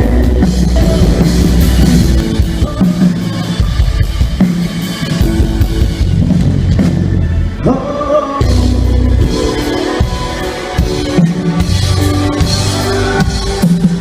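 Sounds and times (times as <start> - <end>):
sustained bass notes: 0.0 - 14.0.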